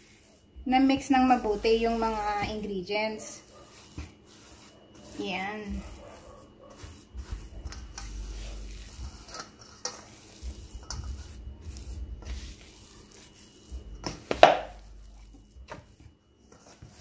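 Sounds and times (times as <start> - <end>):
spatula scraping dough in bowl: 0.0 - 17.0.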